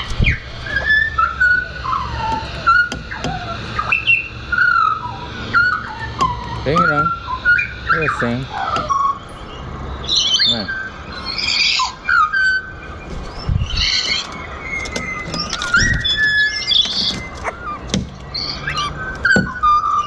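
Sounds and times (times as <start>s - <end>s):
birds whistling and chattering: 0.0s - 20.0s.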